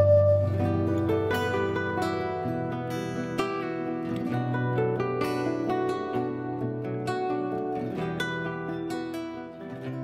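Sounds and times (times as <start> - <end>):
guitar and oud music: 0.0 - 10.0.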